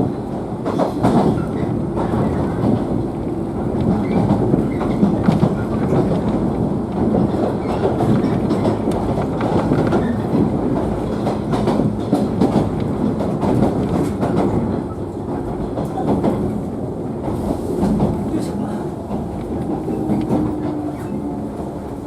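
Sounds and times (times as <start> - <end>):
clickety-clack over rail joints: 0.0 - 22.0
train wheels rumbling on rails: 0.0 - 22.0.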